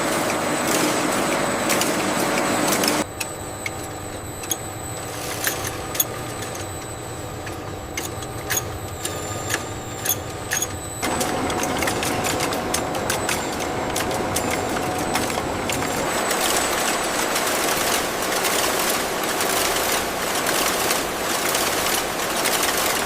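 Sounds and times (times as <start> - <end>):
sharp machine clicks: 0.0 - 4.7, 5.3 - 23.0
factory machinery clattering: 0.0 - 23.0.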